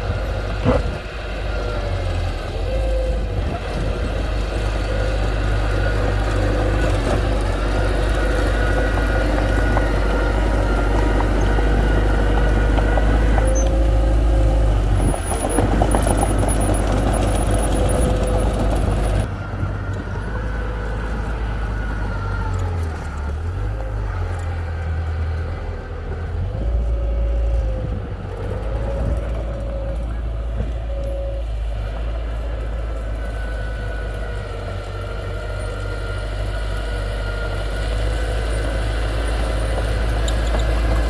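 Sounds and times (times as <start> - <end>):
construction vehicle engine running: 0.0 - 41.0.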